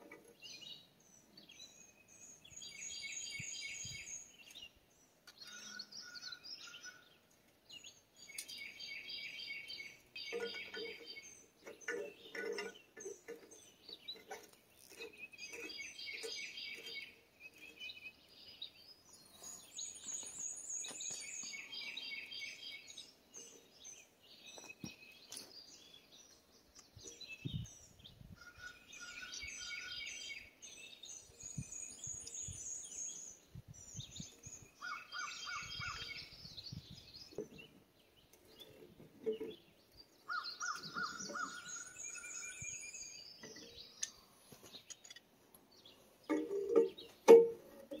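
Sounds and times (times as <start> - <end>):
songbirds chirping and trilling: 0.0 - 48.0.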